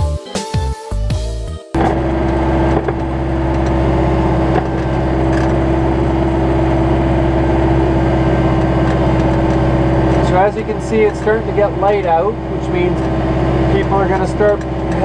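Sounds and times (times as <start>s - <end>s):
tractor engine running: 1.7s - 15.0s
steady tone: 1.8s - 15.0s.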